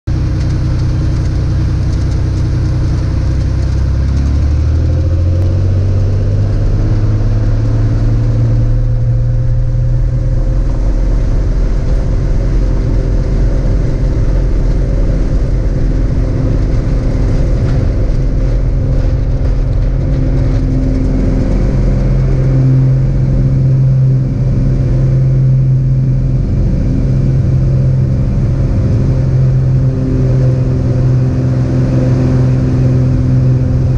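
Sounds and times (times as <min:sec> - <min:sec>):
airplane engine and propeller: 0:00.0 - 0:33.9.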